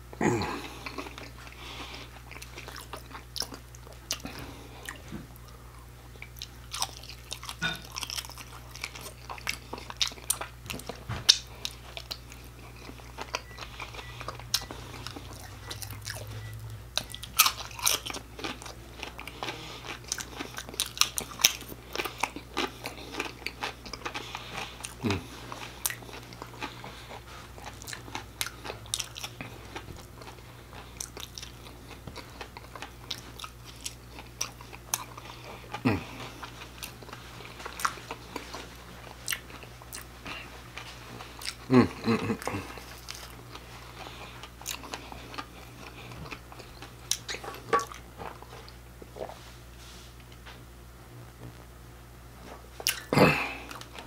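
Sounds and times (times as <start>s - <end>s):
person chewing crunchy food: 0.0s - 50.4s, 52.4s - 54.0s.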